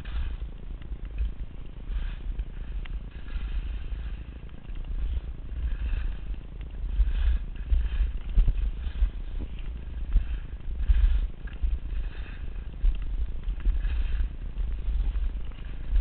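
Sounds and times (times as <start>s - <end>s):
skis scraping on packed snow: 0.0s - 16.0s
wind rumbling on microphone: 0.0s - 16.0s.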